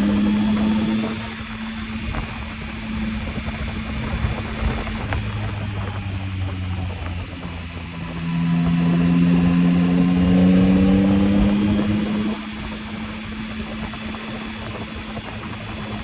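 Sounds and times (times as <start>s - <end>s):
motorcycle engine under throttle: 0.0s - 16.0s
wind noise: 0.0s - 16.0s.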